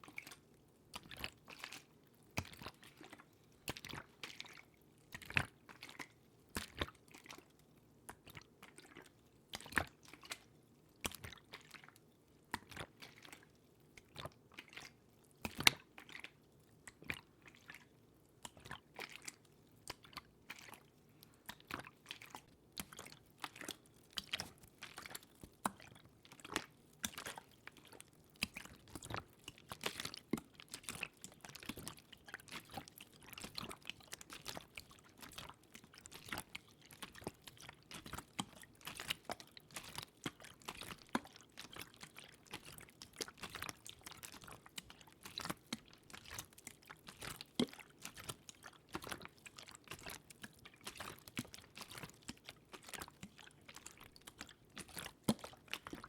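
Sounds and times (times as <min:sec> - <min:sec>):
wet clicks and crackles: 0:11.0 - 0:56.0.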